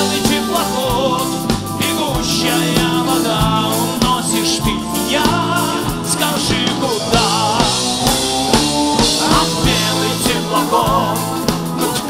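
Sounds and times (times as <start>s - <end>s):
bass: 0.0s - 12.0s
person singing: 0.0s - 12.0s
steady drum beat: 0.0s - 12.0s.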